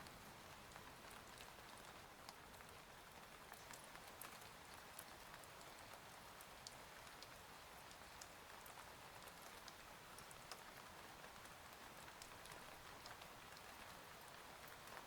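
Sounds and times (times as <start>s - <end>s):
faint steady rain: 0.0s - 15.0s
raindrops ticking: 0.0s - 15.0s.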